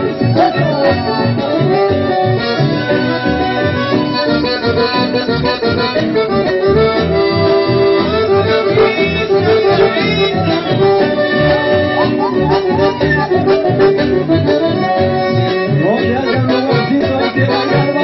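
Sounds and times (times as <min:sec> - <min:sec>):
accordion band music with beat: 0:00.0 - 0:18.0.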